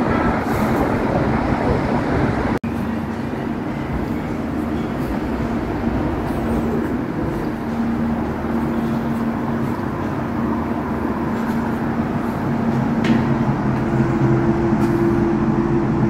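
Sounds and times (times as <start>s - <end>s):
tram electrical hum: 0.0s - 16.0s
higher hum tone: 2.6s - 16.0s.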